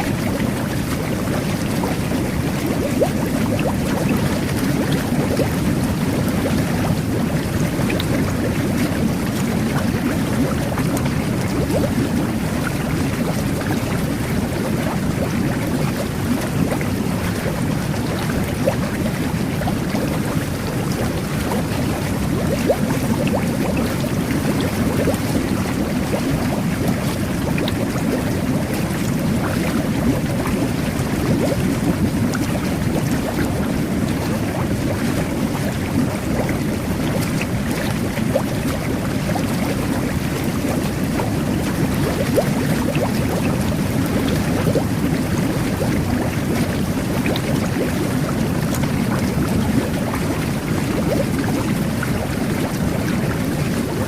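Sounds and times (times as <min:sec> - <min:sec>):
jet bath water churning: 0:00.0 - 0:54.0
bubble pops: 0:00.1 - 0:54.0.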